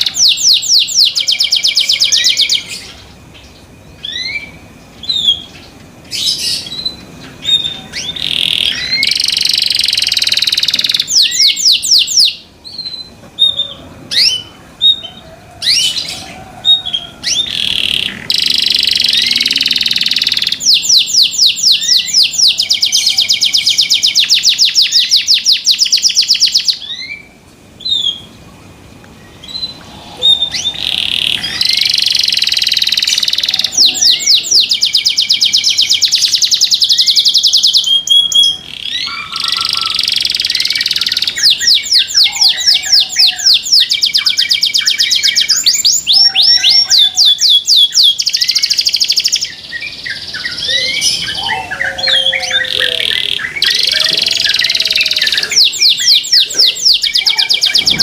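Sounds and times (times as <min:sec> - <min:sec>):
canary singing trills: 0:00.0 - 0:28.5, 0:29.2 - 0:58.0.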